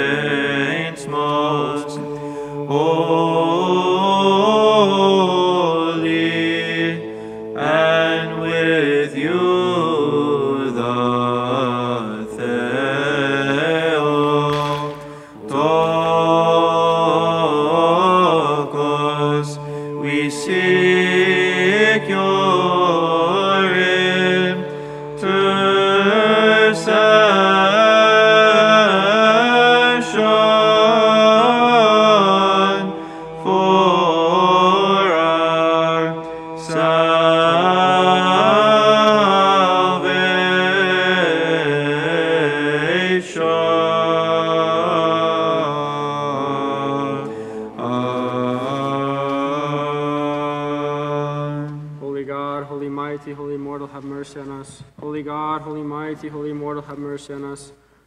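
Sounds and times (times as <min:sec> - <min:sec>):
chanted melody: 0:00.0 - 0:50.4.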